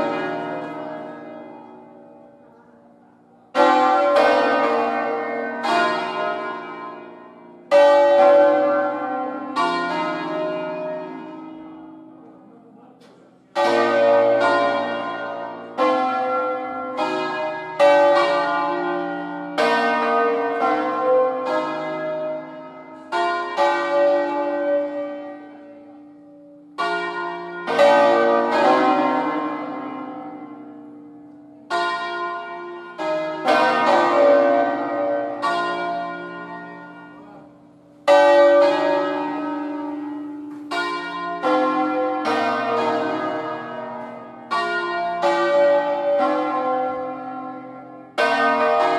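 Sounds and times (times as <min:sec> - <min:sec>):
church bells ringing: 0:00.0 - 0:48.9.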